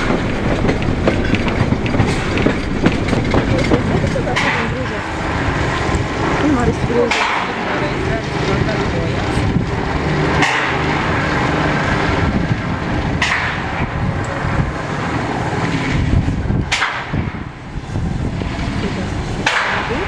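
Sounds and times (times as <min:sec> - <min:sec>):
steam locomotive rumble: 0:00.0 - 0:20.0.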